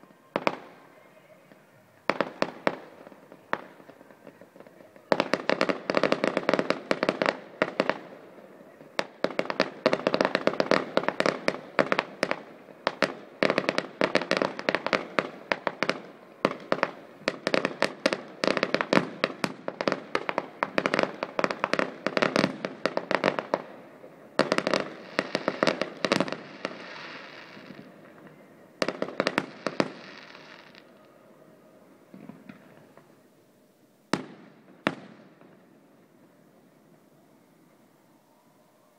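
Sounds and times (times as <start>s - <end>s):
fireworks crackling bangs: 0.0s - 31.2s, 32.0s - 33.4s, 34.1s - 37.0s.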